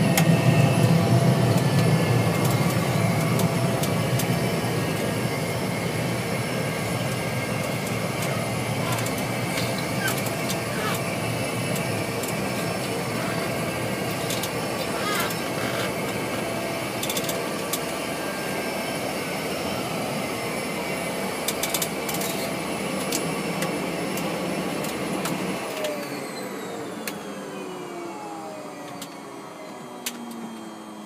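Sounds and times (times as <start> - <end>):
small aircraft engine and propeller: 0.0 - 31.0.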